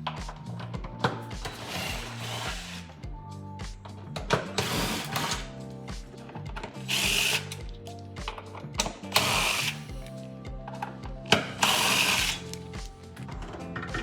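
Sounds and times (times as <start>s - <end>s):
background music with steady beat: 0.0s - 14.0s.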